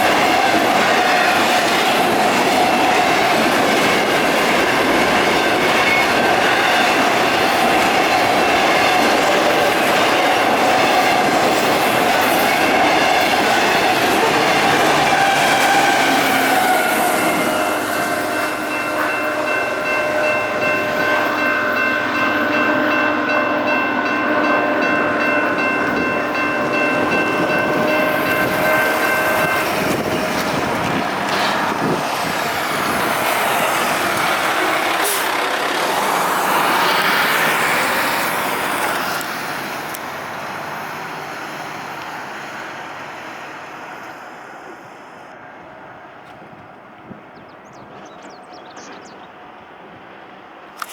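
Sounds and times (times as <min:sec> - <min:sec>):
train rumbling and rattling: 0:00.0 - 0:50.9.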